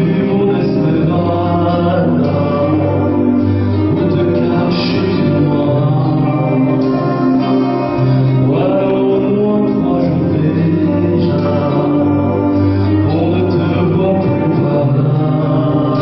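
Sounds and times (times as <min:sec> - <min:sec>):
instrumental accompaniment: 0:00.0 - 0:16.0
vocal duo singing: 0:00.0 - 0:16.0.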